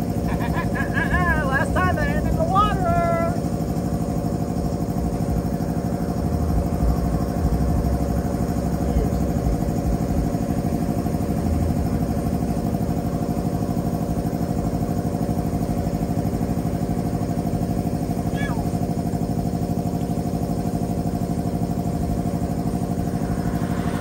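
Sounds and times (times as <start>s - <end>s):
motor idling with fast pulse: 0.0s - 24.0s.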